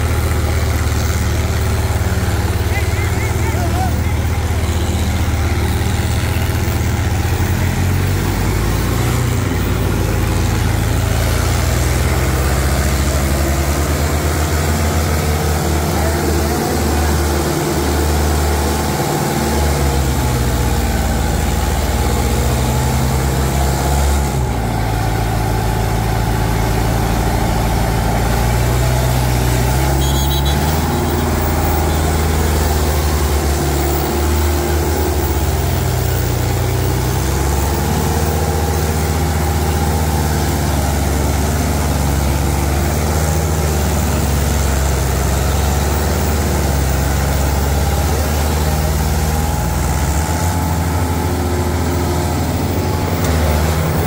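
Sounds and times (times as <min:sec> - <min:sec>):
diesel tractor engines running: 0:00.0 - 0:54.0.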